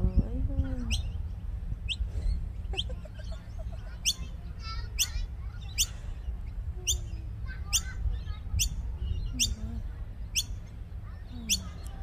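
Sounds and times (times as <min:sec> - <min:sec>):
birds chirping: 0:00.0 - 0:12.0
low steady rumble: 0:00.0 - 0:12.0.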